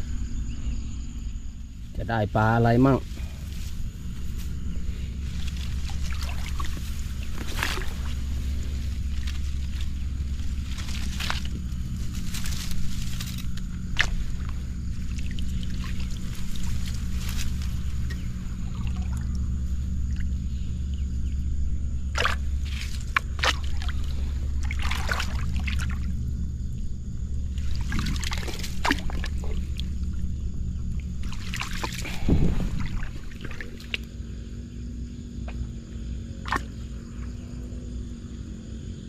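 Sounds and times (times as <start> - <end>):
steady low hum: 0.0 - 39.0
water splashing and sloshing: 2.8 - 34.5, 36.4 - 37.4.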